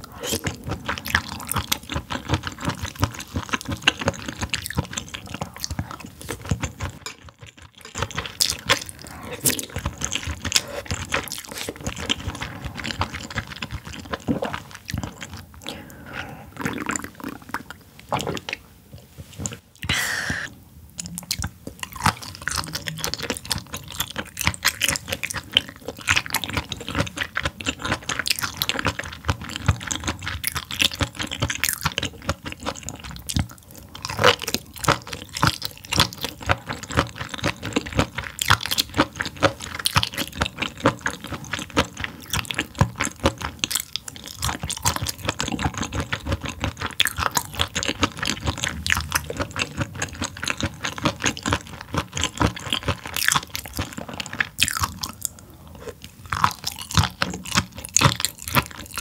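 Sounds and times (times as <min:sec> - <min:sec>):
wet chewing sounds: 0:00.0 - 0:19.9, 0:21.0 - 0:59.0.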